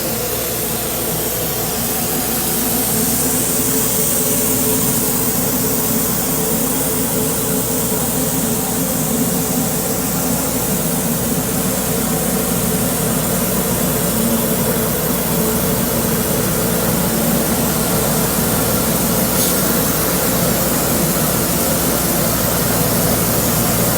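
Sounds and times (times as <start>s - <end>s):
machine hiss: 0.0s - 23.9s.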